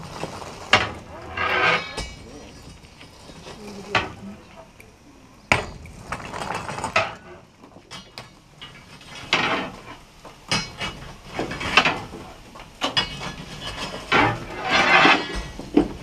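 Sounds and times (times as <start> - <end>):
metallic clanks and clatter: 0.0 - 3.1, 5.5 - 16.0.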